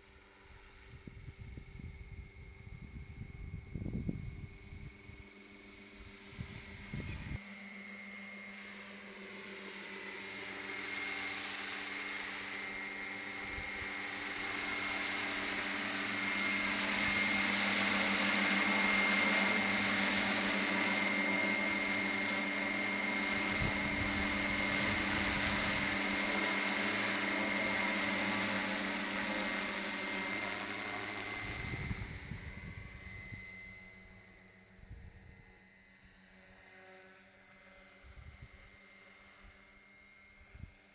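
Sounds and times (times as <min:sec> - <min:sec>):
rc helicopter flying: 0:00.0 - 0:40.9.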